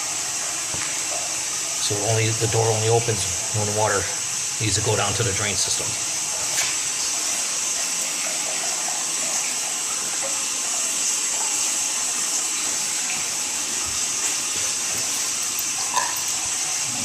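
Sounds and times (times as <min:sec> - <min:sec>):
water rushing through drain: 0:00.0 - 0:17.0.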